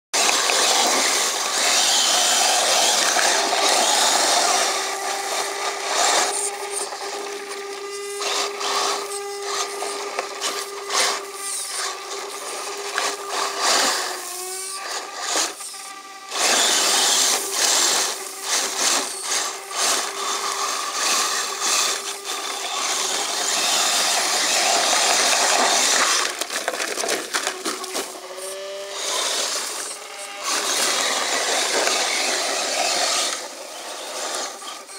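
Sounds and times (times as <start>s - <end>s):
toy truck electric motor whining: 0.2s - 34.9s.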